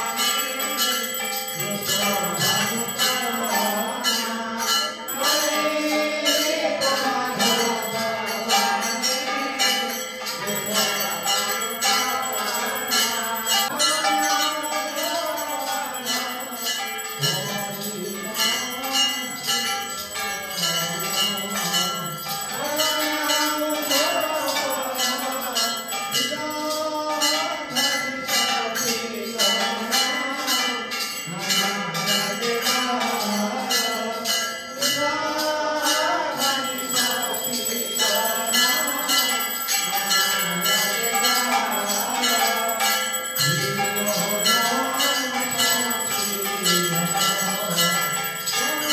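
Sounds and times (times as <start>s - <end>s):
devotional singing: 0.0s - 48.9s
hand bell ringing: 0.0s - 48.9s.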